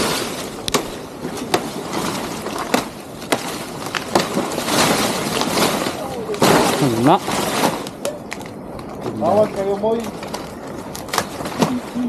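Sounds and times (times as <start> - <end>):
twigs snapping: 0.6 - 9.2, 10.0 - 11.8.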